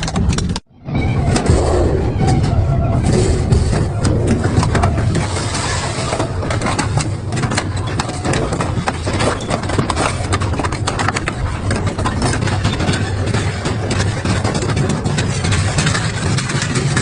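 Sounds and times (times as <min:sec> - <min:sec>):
metal and rubber crunching: 0:00.0 - 0:17.0.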